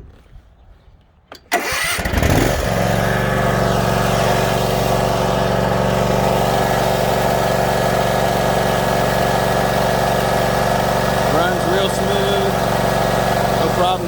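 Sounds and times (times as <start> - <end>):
mower engine cranking and running: 1.3 - 14.0.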